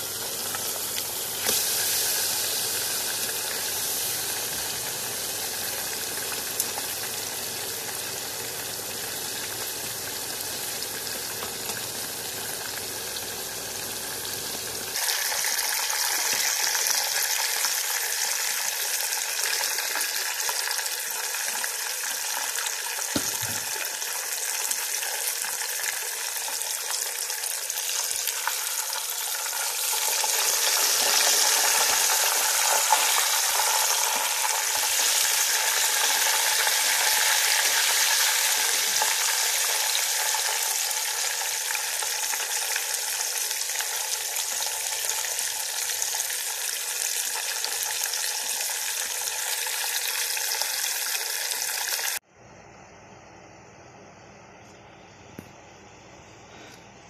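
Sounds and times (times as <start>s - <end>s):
chicken sizzling in hot oil: 0.0s - 52.2s.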